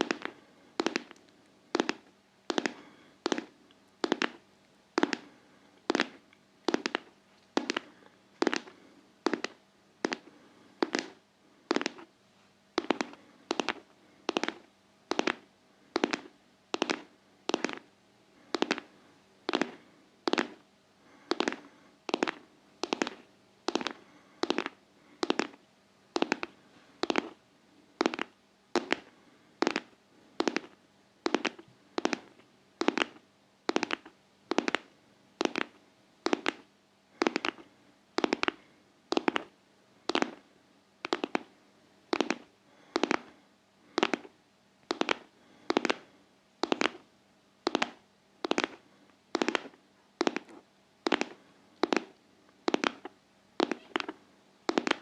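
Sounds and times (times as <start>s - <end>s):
steady rhythmic tapping: 0.0s - 12.1s, 12.8s - 27.4s, 28.0s - 39.5s, 40.1s - 40.4s, 41.0s - 41.5s, 42.1s - 55.0s.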